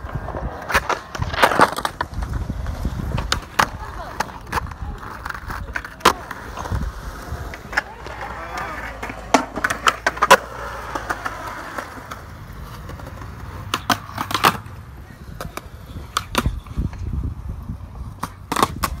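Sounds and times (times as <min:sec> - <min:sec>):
skateboard clacking: 0:00.0 - 0:17.2, 0:17.8 - 0:19.0
skateboard wheels rolling on concrete: 0:00.0 - 0:19.0.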